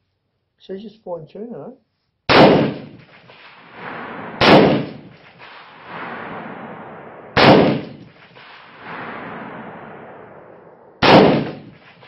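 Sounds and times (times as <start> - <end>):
rifle shots with rolling echo: 2.3 - 12.0.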